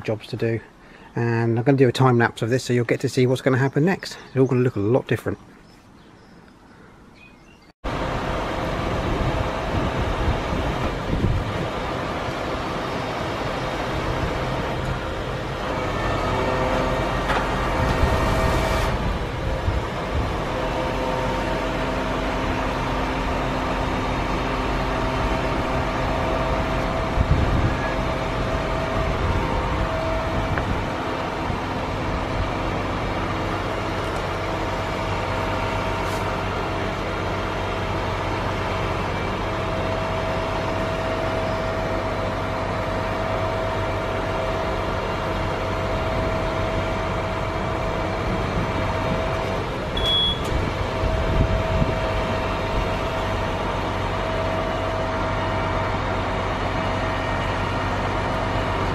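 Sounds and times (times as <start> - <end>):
hydraulic crane mechanical drone: 7.9 - 58.9.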